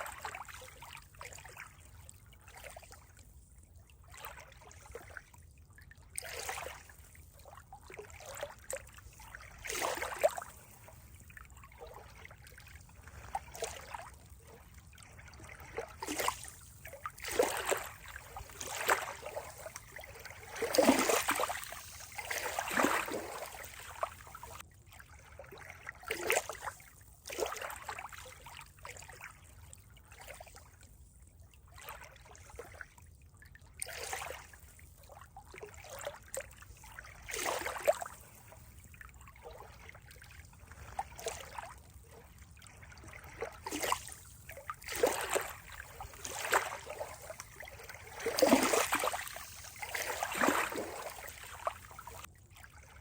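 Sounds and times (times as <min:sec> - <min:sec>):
water trickling and splashing: 0:00.0 - 0:53.0.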